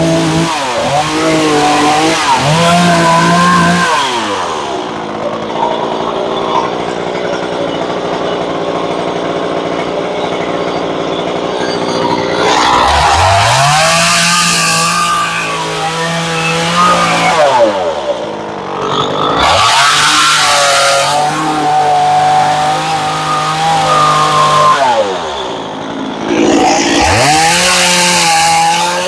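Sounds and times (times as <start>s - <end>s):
chainsaw cutting wood: 0.0s - 29.0s
chainsaw idling and revving: 0.0s - 29.0s.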